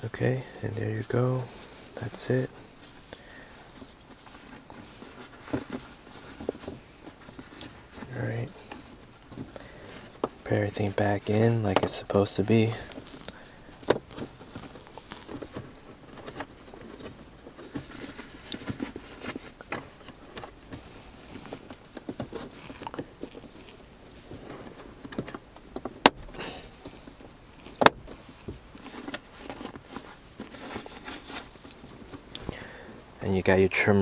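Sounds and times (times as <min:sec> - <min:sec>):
hands rustling and tapping trim: 0:00.7 - 0:32.6.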